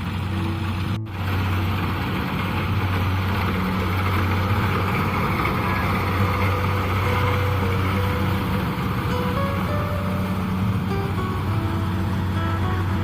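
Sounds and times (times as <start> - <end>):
diesel engine running: 0.0 - 13.0
low hum: 0.0 - 13.0.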